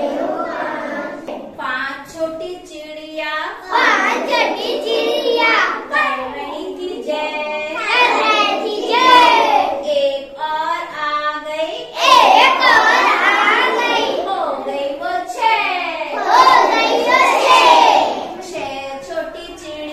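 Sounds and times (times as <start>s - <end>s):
children singing in unison: 0.0s - 1.5s, 3.6s - 10.0s, 11.8s - 19.9s.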